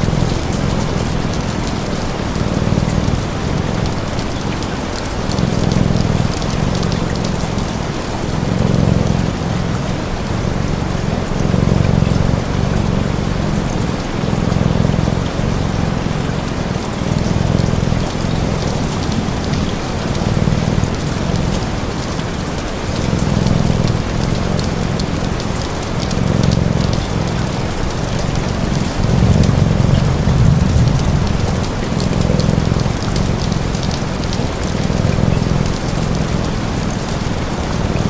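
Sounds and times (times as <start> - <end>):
cat purring: 0.0 - 38.0
steady rain falling: 0.0 - 38.0.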